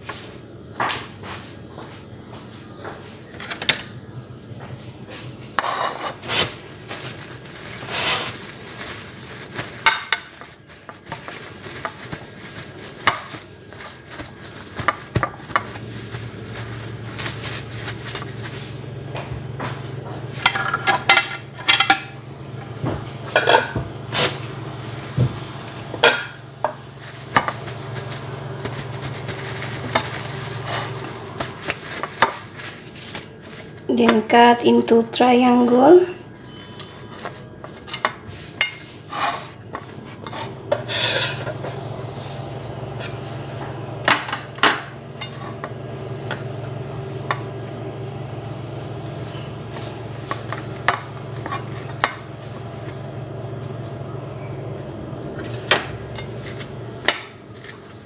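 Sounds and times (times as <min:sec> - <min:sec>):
low steady hum: 0:00.0 - 0:58.0
paper napkin rustling: 0:05.2 - 0:21.6, 0:22.4 - 0:35.0, 0:36.6 - 0:53.6, 0:55.4 - 0:58.0.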